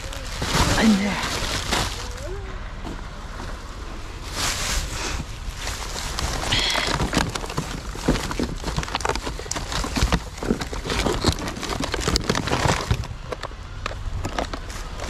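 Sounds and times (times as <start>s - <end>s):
bags rustling and clattering: 0.0s - 15.0s.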